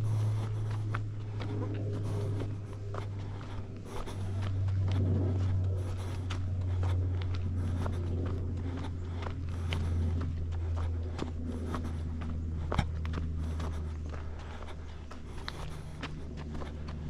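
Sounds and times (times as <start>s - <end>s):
footsteps crunching on trail: 0.0s - 17.0s
low rumble: 0.0s - 17.0s.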